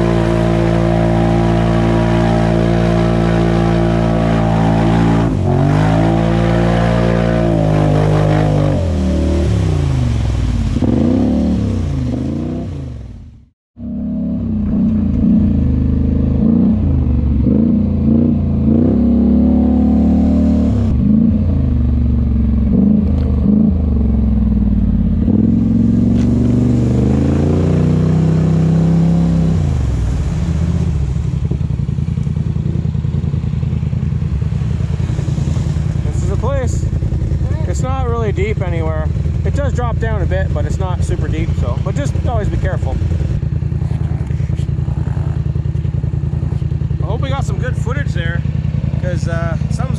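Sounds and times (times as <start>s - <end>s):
atv engine revving: 0.0s - 13.2s, 13.8s - 49.9s.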